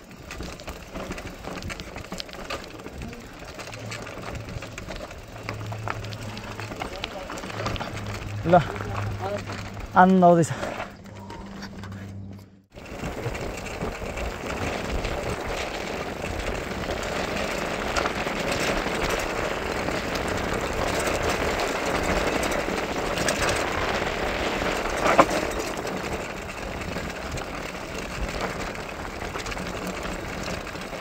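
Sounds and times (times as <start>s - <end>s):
bicycle tyre noise: 0.0s - 31.0s
rushing wind: 0.0s - 31.0s.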